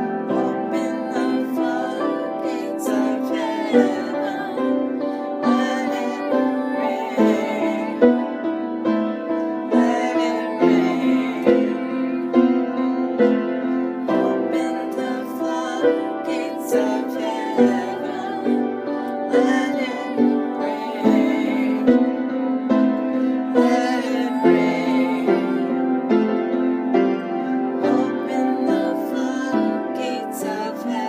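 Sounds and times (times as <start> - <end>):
woman singing: 0.0 - 8.8, 9.5 - 22.4, 23.5 - 26.2, 27.7 - 31.0
piano playing: 0.0 - 31.0.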